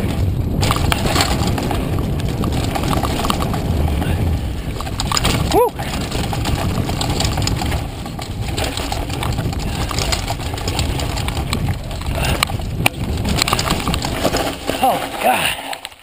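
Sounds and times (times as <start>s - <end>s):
bike rattling and clicking: 0.0s - 16.0s
wind and tyres on dirt: 0.0s - 16.0s.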